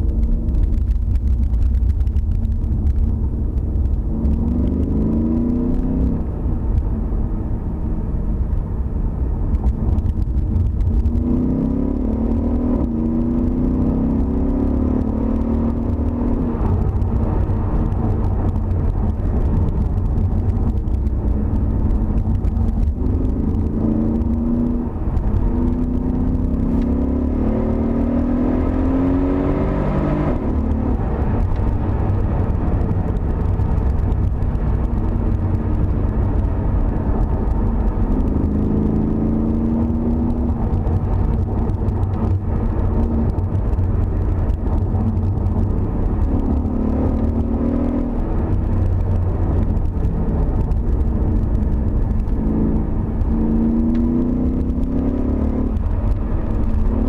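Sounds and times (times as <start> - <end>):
car engine accelerating: 0.0 - 57.0
road and tyre rumble: 0.0 - 57.0.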